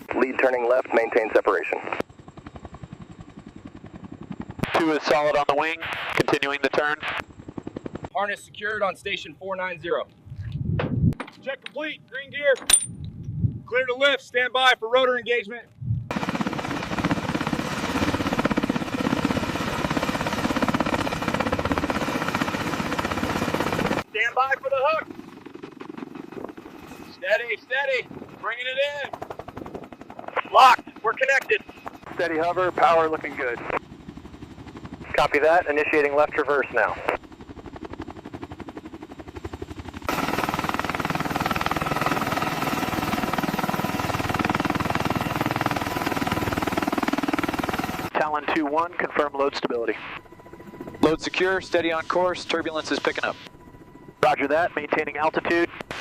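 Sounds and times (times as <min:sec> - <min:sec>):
helicopter rotor blades beating: 0:02.0 - 0:09.8, 0:16.1 - 0:56.0.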